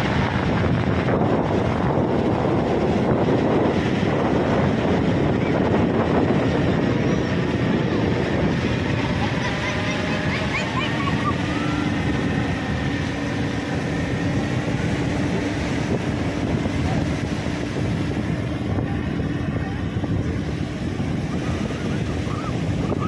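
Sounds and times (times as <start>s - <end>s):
propeller engine droning overhead: 0.0s - 23.0s
surf: 0.0s - 23.0s
wind: 0.0s - 23.0s.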